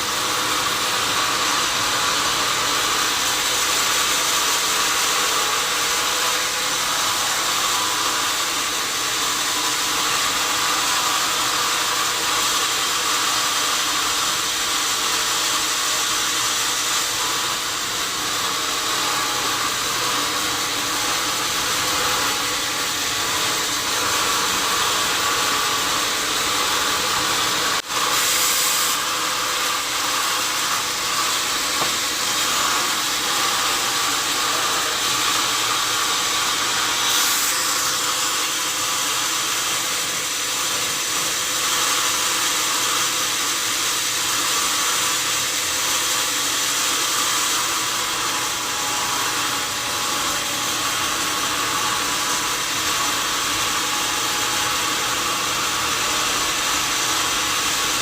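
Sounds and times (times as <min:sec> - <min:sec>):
saw hissing through log: 0:00.0 - 0:58.0.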